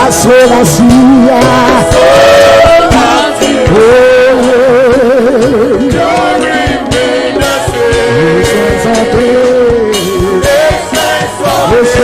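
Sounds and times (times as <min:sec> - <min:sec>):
gospel band accompaniment: 0:00.0 - 0:12.0
person singing with vibrato: 0:00.0 - 0:12.0.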